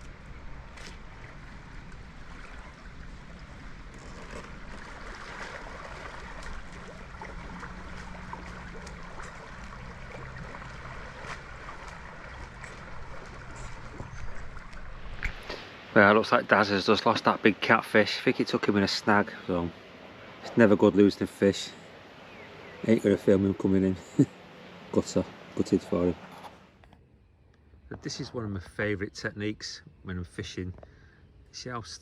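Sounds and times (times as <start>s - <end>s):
river water moving: 0.0s - 26.8s
low wind rumble: 0.0s - 31.1s.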